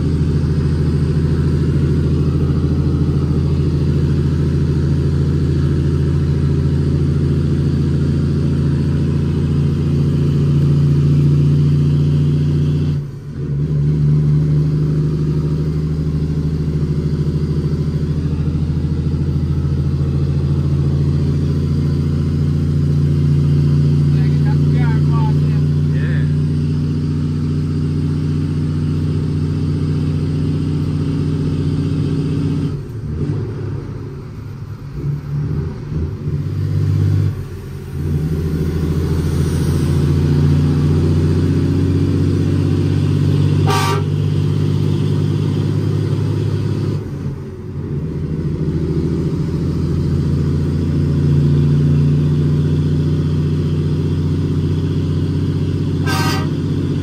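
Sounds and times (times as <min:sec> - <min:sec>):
truck engine pulling under load: 0:00.0 - 0:57.0.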